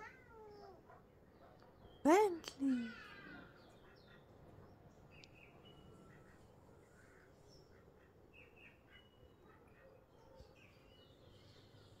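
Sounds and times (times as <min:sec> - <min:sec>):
outdoor garden ambience: 0:00.0 - 0:12.0.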